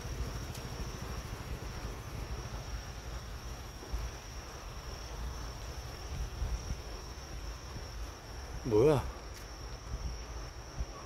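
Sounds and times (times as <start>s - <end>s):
crickets trilling: 0.0s - 11.0s
wind rumble on microphone: 0.0s - 11.0s.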